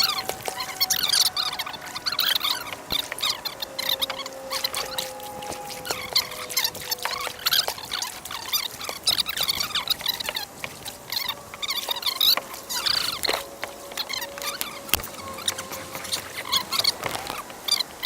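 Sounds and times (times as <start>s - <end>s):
small birds chirping and warbling: 0.0s - 18.0s.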